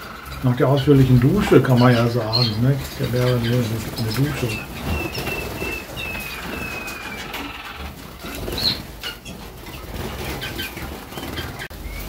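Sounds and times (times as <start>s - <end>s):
bird chirps: 0.0s - 12.0s
wings fluttering and splashing: 0.0s - 12.0s.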